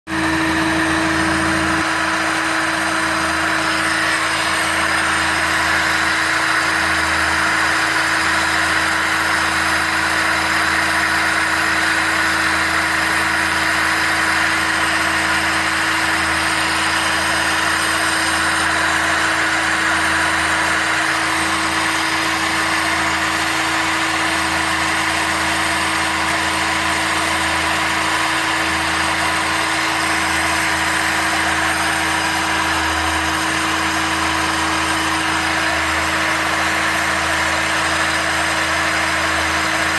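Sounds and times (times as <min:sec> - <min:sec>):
air conditioning compressor running: 0:00.1 - 0:39.9
car engine idling: 0:00.1 - 0:39.9.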